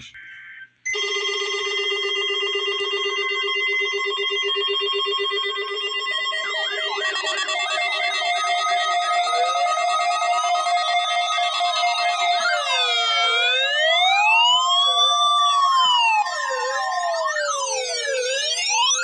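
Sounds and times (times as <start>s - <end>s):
warbling alarm tone: 0.0s - 19.0s.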